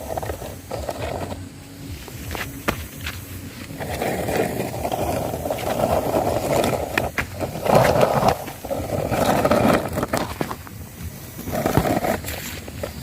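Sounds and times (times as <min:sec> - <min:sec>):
toy car rolling on rough ground: 0:00.0 - 0:13.0.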